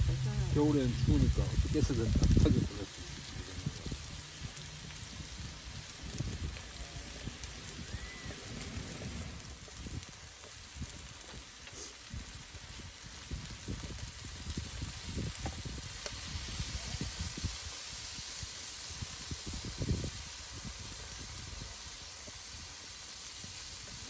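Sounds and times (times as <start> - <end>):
meat sizzling on a grill: 0.0 - 24.0.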